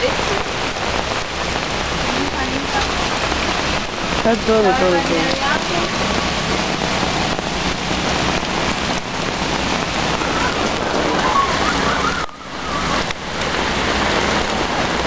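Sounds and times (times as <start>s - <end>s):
heavy rain on a flooded street: 0.0s - 15.0s.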